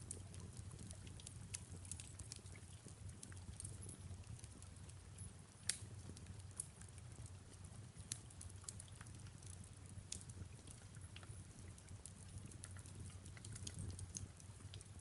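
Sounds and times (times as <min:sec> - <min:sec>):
small pops and snaps: 0:00.0 - 0:04.6, 0:05.6 - 0:07.0, 0:08.0 - 0:15.0
fireplace crackling: 0:00.0 - 0:15.0
soft rain falling: 0:00.0 - 0:15.0.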